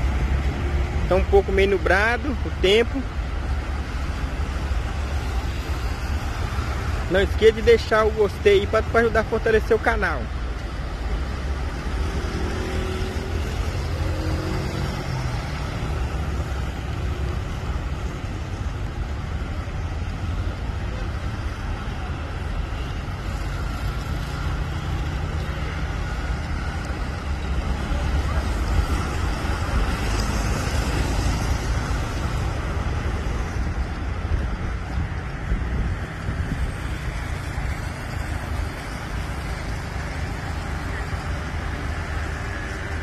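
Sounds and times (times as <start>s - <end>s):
road traffic passing: 0.0s - 43.0s.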